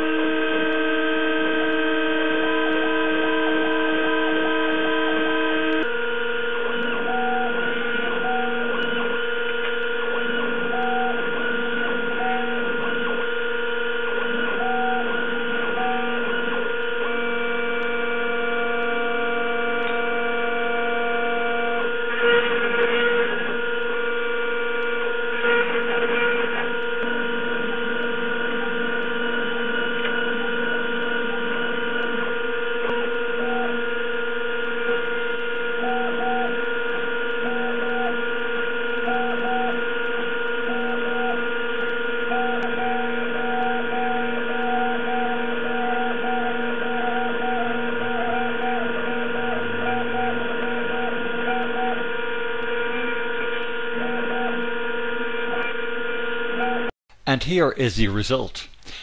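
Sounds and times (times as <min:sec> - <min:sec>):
milling machine motors whining: 0:00.0 - 0:56.9.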